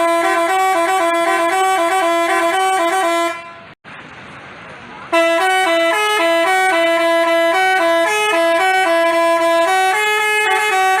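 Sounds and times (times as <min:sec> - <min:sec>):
bus horn playing a fast tune: 0:00.0 - 0:03.8, 0:05.1 - 0:11.0.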